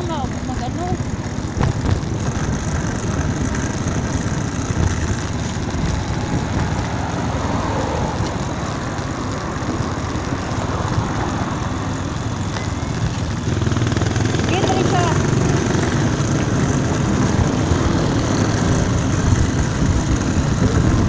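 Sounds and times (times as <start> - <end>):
motor traffic rumble: 0.0 - 21.0.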